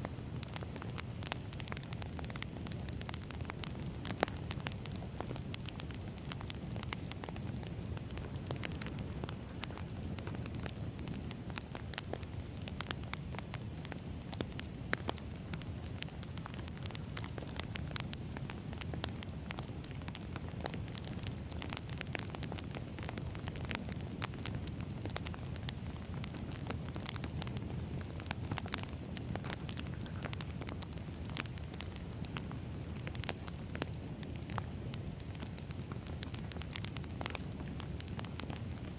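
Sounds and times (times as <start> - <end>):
burning logs crackling and popping: 0.0 - 38.9
low rumble of flames: 0.0 - 38.9.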